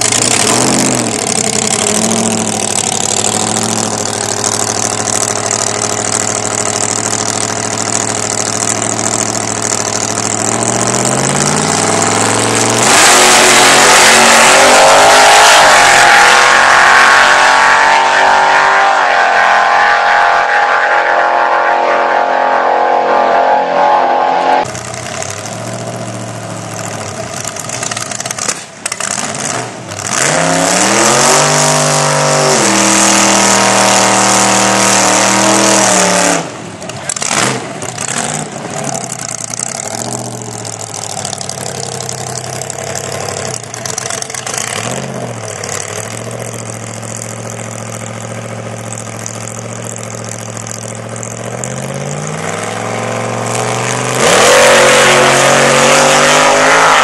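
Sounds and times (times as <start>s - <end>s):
supercharged engine revving: 0.0s - 57.0s.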